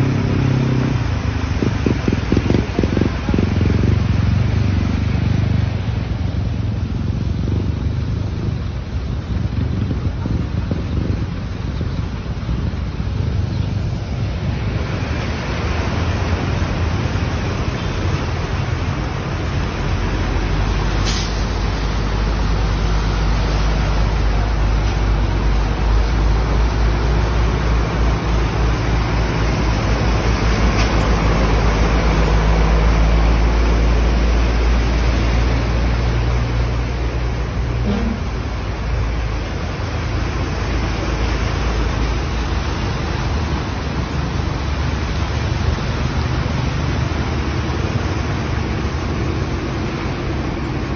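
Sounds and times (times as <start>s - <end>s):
traffic noise: 0.0s - 50.9s.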